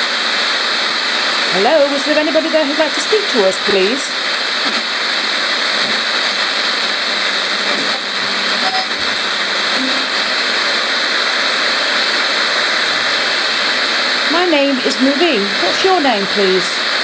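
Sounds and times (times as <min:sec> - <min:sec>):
radio static hiss: 0:00.0 - 0:17.0
blips of radio station sound: 0:02.4 - 0:16.6.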